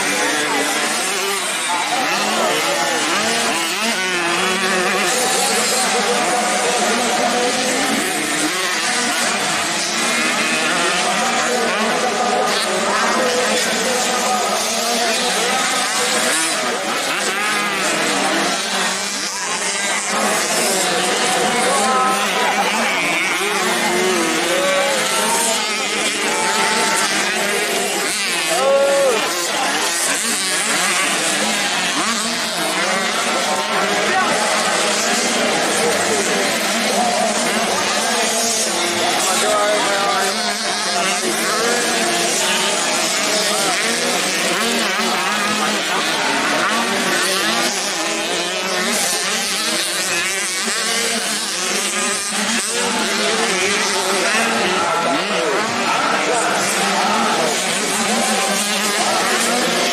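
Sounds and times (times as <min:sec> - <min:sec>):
motocross bikes revving: 0:00.0 - 0:59.9.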